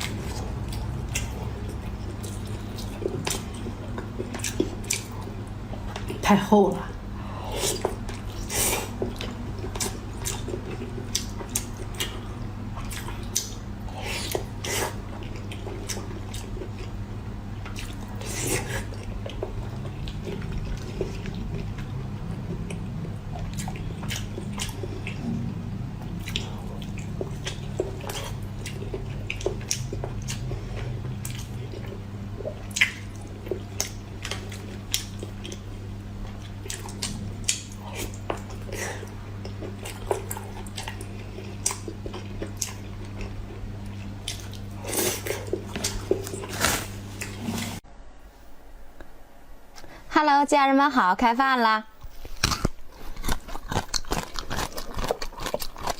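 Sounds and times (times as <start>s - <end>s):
person chewing food: 0.0s - 6.2s, 7.4s - 47.8s, 52.0s - 55.9s
steady low hum: 0.0s - 55.9s.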